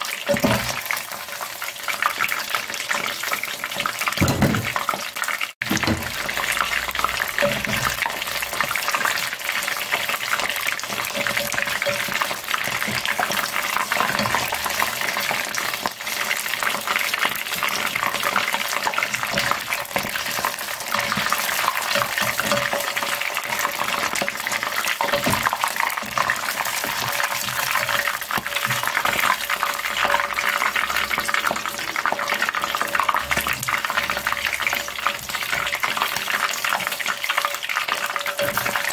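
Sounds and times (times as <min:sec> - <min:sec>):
food crackling in hot oil: 0:00.0 - 0:38.9
skimmer stirring in oil: 0:04.8 - 0:38.9.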